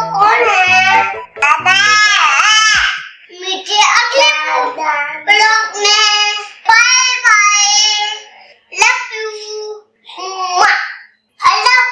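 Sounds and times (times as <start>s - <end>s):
child singing: 0.0s - 11.9s.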